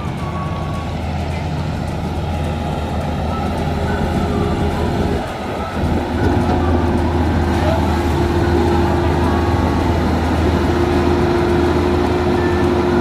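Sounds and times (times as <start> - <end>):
combine harvester rumbling: 0.0 - 13.0.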